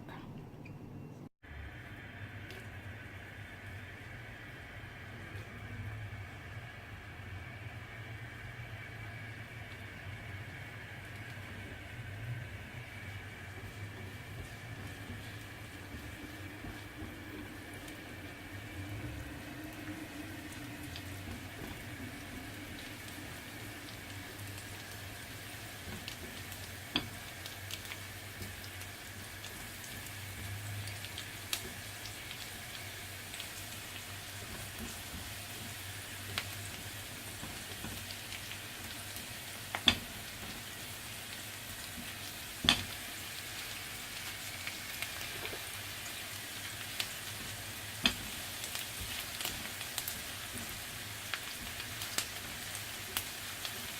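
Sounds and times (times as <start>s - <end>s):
oil sizzling in a skillet: 1.5s - 53.9s.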